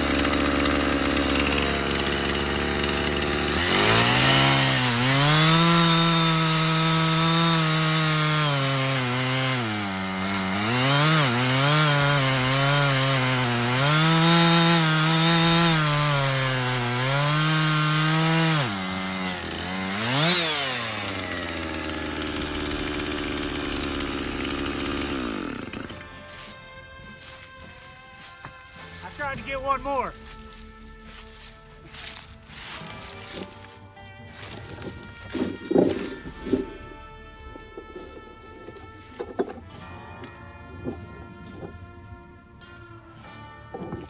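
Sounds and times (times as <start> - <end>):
chainsaw cutting log: 0.0 - 41.7, 43.7 - 44.0.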